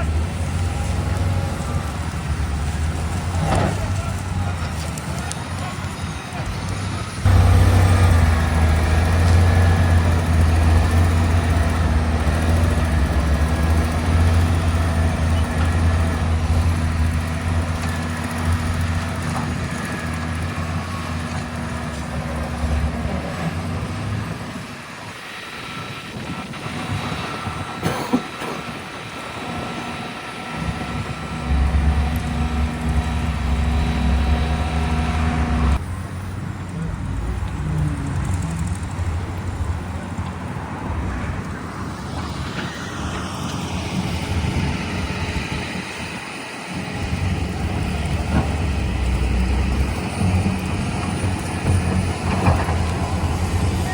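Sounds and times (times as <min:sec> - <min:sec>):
heavy diesel engine droning: 0:00.0 - 0:53.9.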